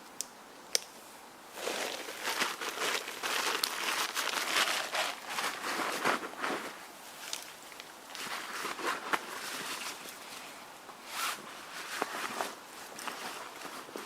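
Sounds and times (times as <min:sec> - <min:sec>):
rustling and crunching: 0:01.5 - 0:14.0.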